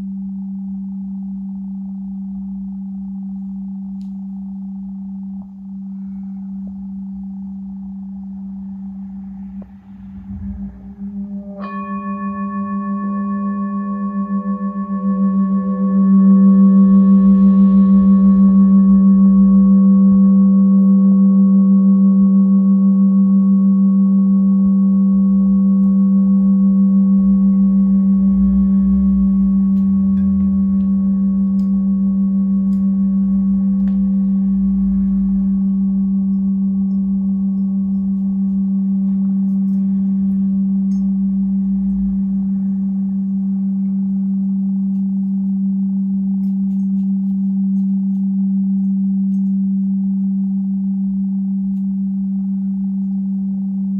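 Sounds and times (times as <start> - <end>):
singing bowl ringing: 0.0 - 53.9.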